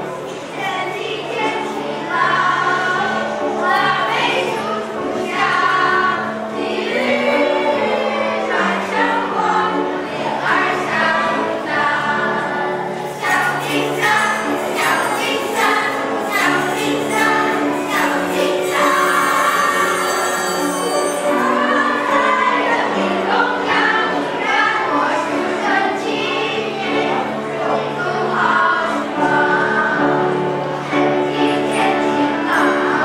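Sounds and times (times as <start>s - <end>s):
children's choir singing: 0.0s - 33.0s.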